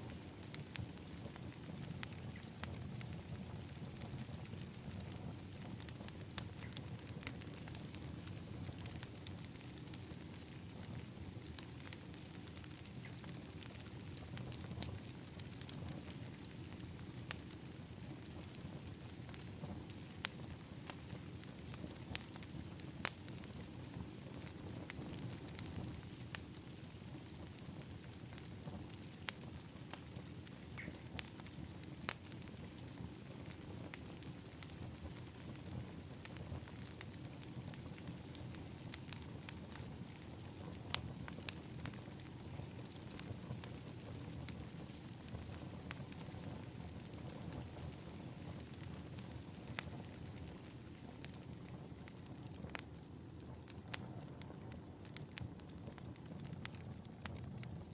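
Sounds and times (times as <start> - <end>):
fire pops and snaps: 0.0 - 57.9
wood fire crackling: 0.0 - 57.9.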